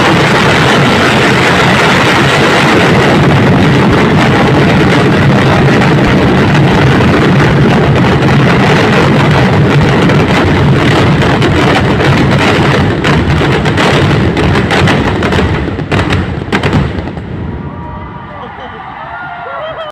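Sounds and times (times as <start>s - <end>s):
fireworks bursting: 0.0s - 19.0s
fireworks crackling: 0.0s - 19.4s.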